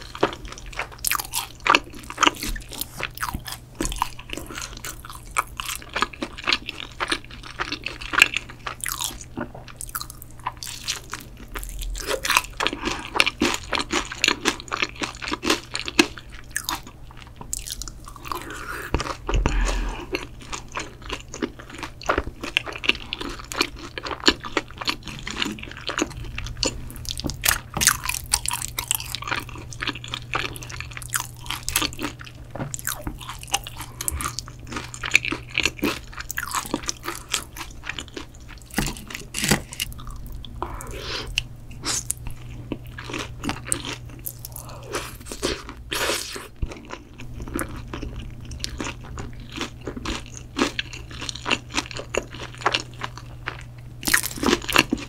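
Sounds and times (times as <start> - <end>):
crunchy bites and chewing: 0.0 - 55.0.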